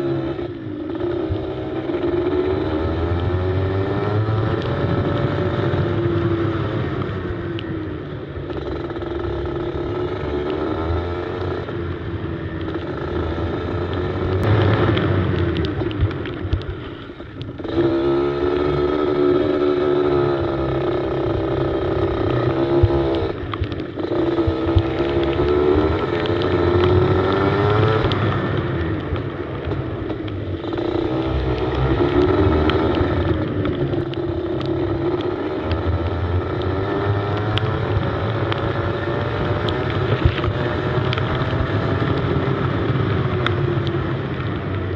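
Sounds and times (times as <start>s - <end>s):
kart engine revving: 0.0s - 7.4s, 8.3s - 44.8s.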